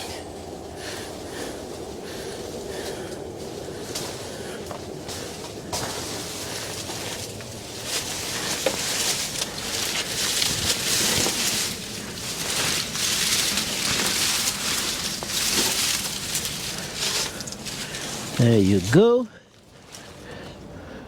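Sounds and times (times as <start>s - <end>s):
rustling hissing noise: 0.0s - 19.0s.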